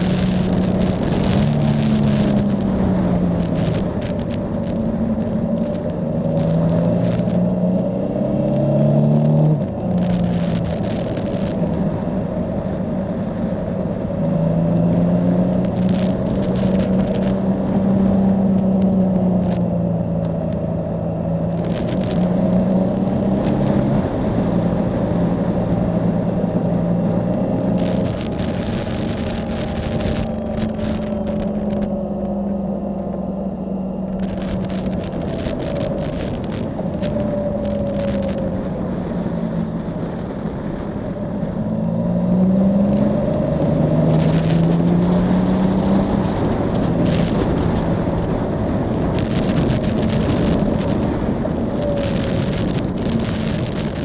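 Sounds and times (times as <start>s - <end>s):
motorcycle engine: 0.0s - 54.0s
wind buffeting microphone: 0.0s - 54.0s.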